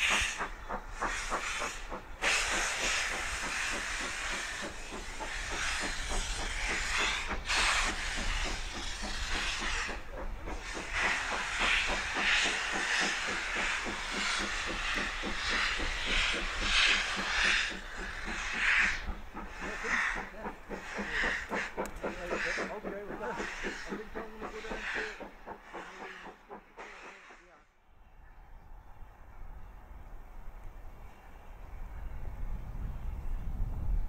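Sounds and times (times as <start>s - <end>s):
loud steam hiss: 0.0s - 27.7s
steam locomotive exhaust beats: 0.0s - 28.0s.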